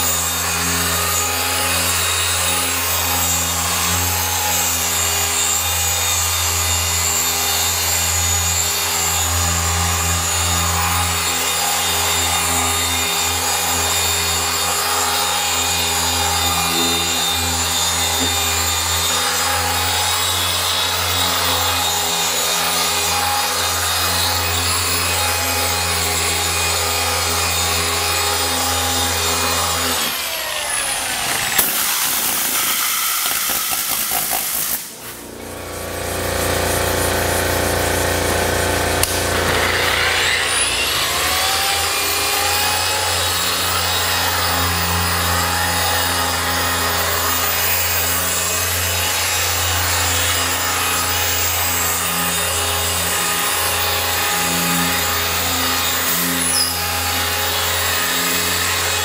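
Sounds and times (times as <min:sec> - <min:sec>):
electric polisher whining: 0:00.0 - 0:59.0.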